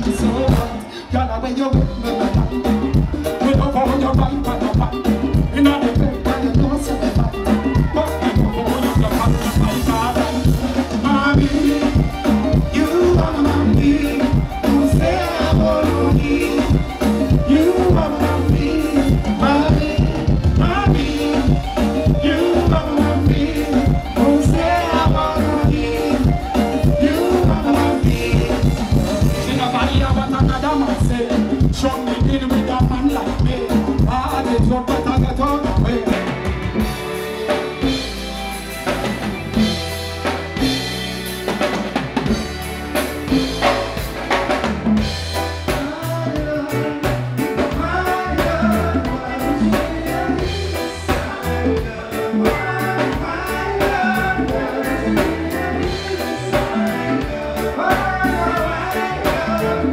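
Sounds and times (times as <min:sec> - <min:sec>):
man singing into microphone: 0:00.0 - 0:36.4, 0:45.6 - 0:59.9
live band music: 0:00.0 - 0:59.9.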